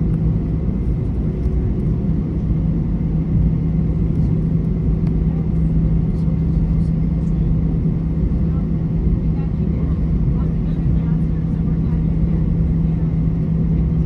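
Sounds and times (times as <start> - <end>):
aircraft rolling rumble: 0.0 - 14.0
jet engines droning: 0.0 - 14.0.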